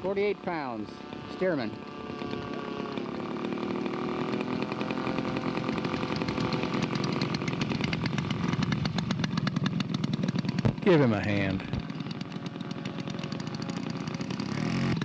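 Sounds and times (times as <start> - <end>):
model plane engine buzzing: 0.0 - 15.0.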